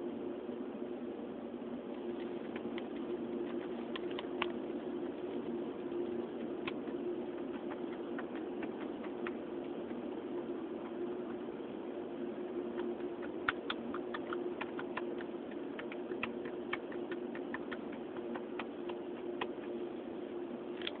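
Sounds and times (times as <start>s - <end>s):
crackling clicks through speakers: 1.9s - 20.0s, 20.7s - 21.0s.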